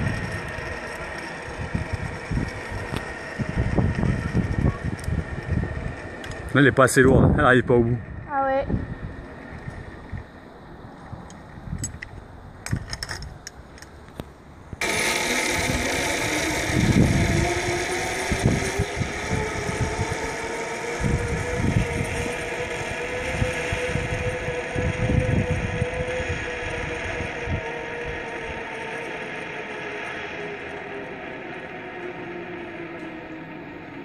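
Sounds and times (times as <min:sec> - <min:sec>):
zip-line pulleys whirring: 0:00.0 - 0:10.4, 0:14.8 - 0:34.0
wind buffeting microphone: 0:00.0 - 0:13.7, 0:14.6 - 0:30.4.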